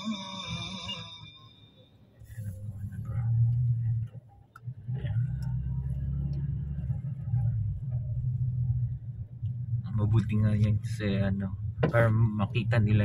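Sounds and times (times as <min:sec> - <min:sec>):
car driving rumble inside cabin: 0:02.2 - 0:13.0.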